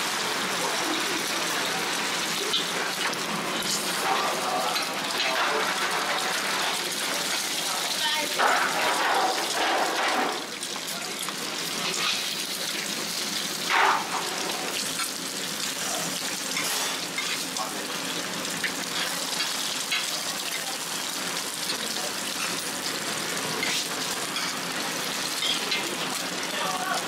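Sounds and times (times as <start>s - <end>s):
pancakes sizzling in hot oil: 0.0s - 27.0s.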